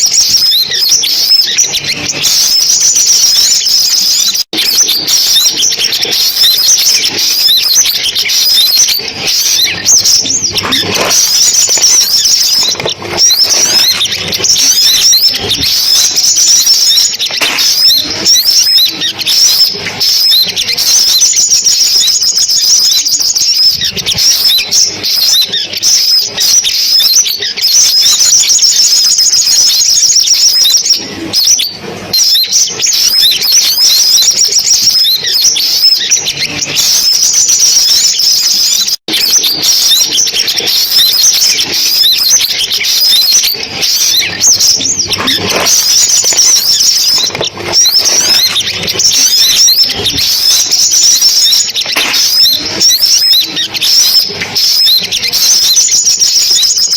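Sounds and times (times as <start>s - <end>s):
sunbird twitters and chirps: 0.0s - 56.9s.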